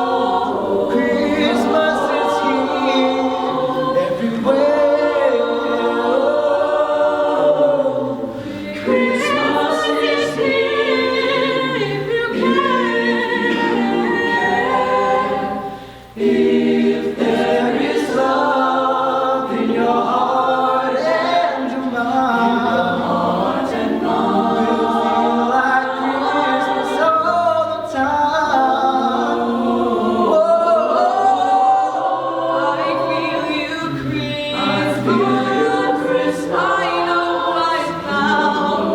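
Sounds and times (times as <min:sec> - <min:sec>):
choir singing unaccompanied: 0:00.0 - 0:38.9.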